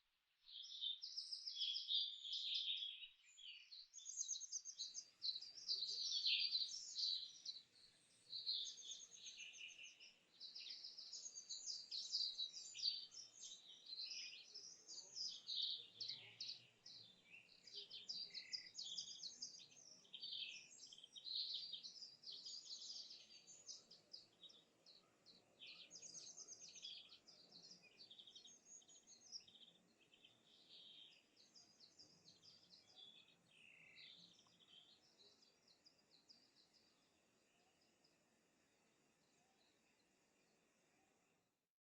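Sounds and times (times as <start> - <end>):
birds chirping and trilling: 0.5 - 38.2.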